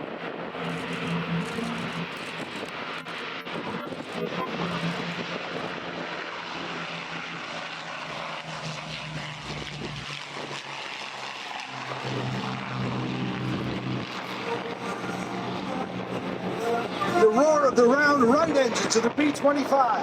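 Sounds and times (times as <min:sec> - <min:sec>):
propeller plane flying past: 0:00.0 - 0:20.0.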